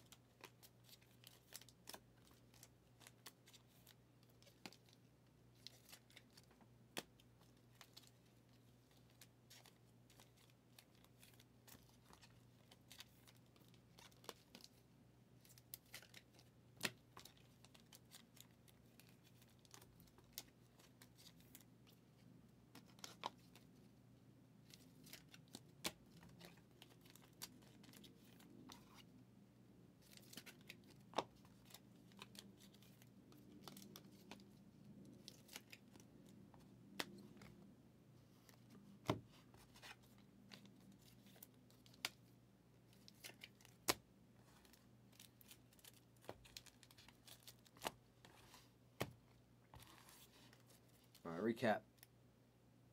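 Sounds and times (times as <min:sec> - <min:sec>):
cards clicking and rustling: 0:00.1 - 0:14.8, 0:15.4 - 0:23.9, 0:24.6 - 0:29.1, 0:30.0 - 0:37.7, 0:38.4 - 0:42.3, 0:42.9 - 0:51.2.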